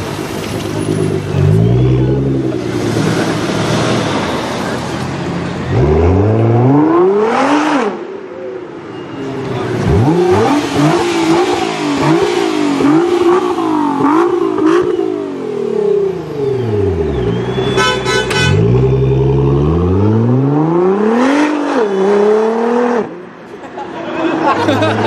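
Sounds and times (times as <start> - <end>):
car engine revving: 0.2 - 8.0, 9.6 - 23.2.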